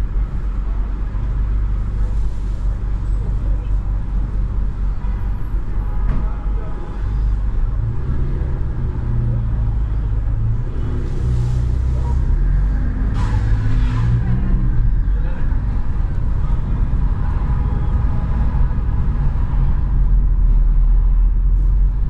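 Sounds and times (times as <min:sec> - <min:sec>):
car engine idling rumble: 0:00.0 - 0:22.0.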